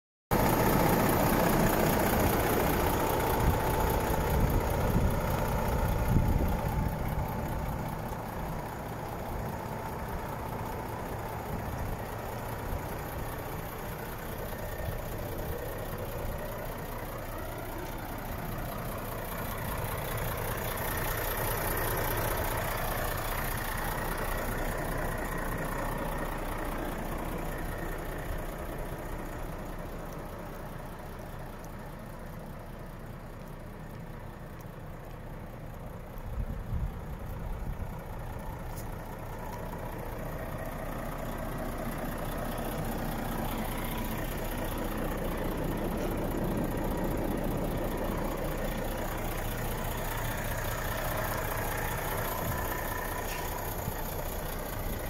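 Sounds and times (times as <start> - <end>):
diesel engine idling: 0.3 - 55.0.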